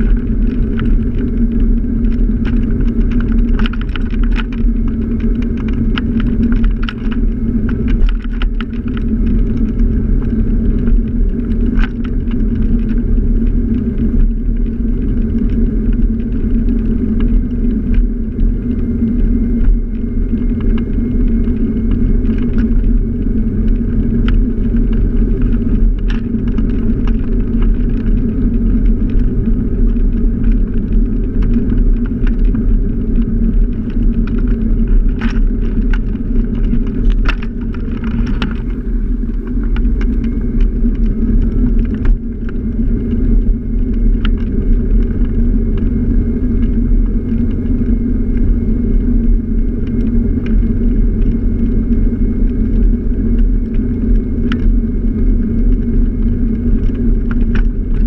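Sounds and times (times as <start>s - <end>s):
scooter ride rumble and wind: 0.0s - 58.0s.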